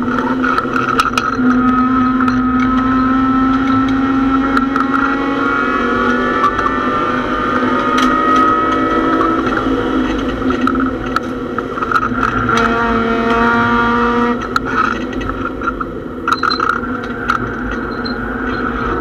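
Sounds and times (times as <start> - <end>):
race car engine running hard: 0.0 - 19.0
road and wind noise: 0.0 - 19.0
sharp clicks and rattles: 0.0 - 19.0.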